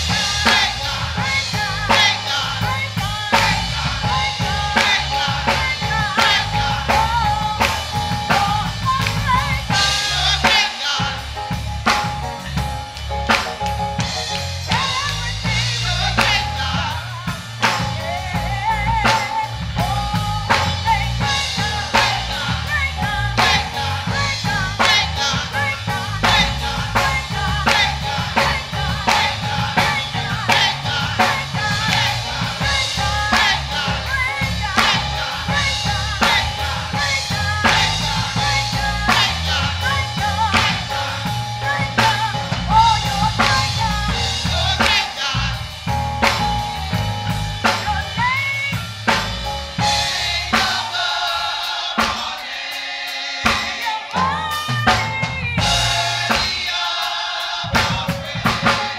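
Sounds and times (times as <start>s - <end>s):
bass: 0.0s - 58.9s
drum kit beat: 0.0s - 58.9s
voices singing: 0.0s - 58.9s.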